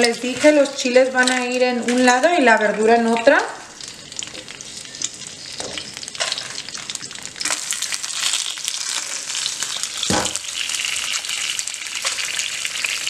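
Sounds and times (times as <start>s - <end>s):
hot oil sizzling in pan: 0.0s - 13.0s.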